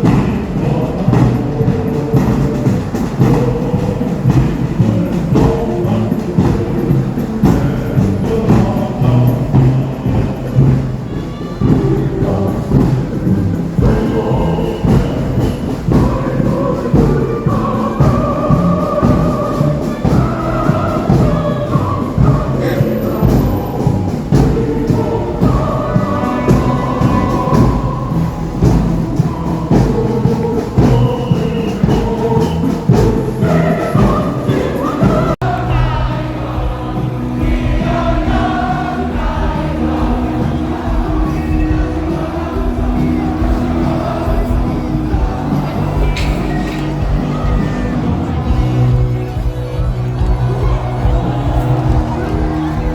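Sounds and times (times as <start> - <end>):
drum beating: 0.0 - 52.9
music with singing voices: 0.0 - 52.9.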